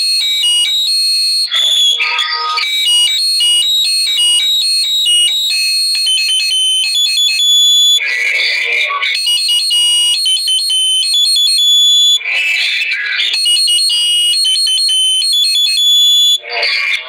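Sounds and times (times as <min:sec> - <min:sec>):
tinny electronic tune from small speaker: 0:00.0 - 0:16.9.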